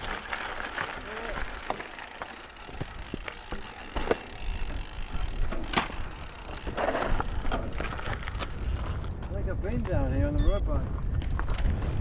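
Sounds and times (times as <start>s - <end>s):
bike clicks and knocks: 0.0s - 10.1s, 10.9s - 12.0s.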